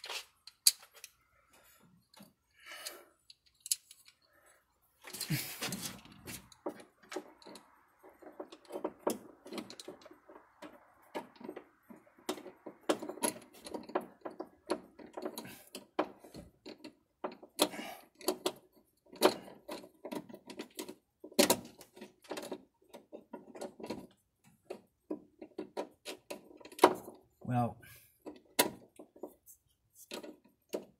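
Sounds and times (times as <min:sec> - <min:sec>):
metal parts and tools clinking: 0:00.0 - 0:01.2, 0:02.0 - 0:27.2.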